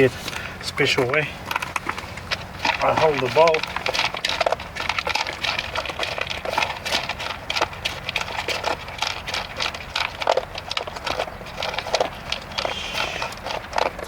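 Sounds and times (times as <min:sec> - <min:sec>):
dog chewing from a bowl: 0:00.0 - 0:14.0.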